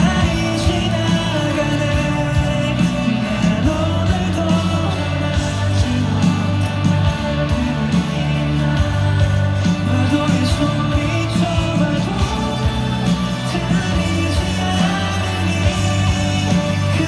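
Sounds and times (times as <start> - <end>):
live rock-pop band music: 0.0 - 17.0.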